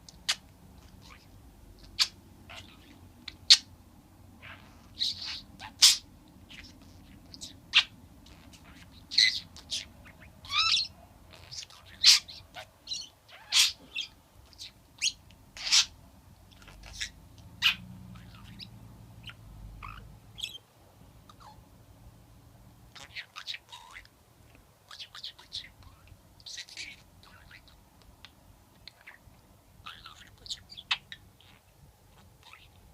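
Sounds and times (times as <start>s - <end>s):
budgerigar chirping and chattering: 0.1s - 3.7s, 4.4s - 20.6s, 21.3s - 21.6s, 22.9s - 24.1s, 24.9s - 28.2s, 28.8s - 32.8s.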